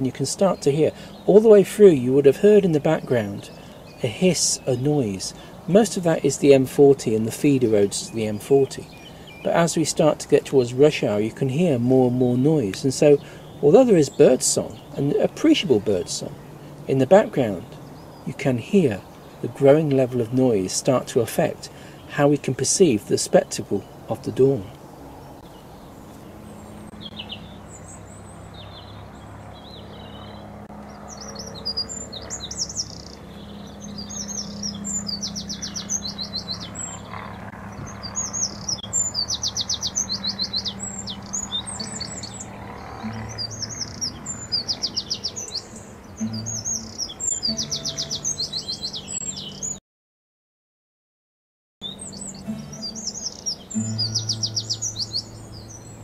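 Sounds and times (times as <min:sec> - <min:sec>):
distant motorway traffic: 0:00.0 - 0:49.8, 0:51.8 - 0:56.0
songbirds singing trills: 0:00.0 - 0:49.8, 0:51.8 - 0:56.0.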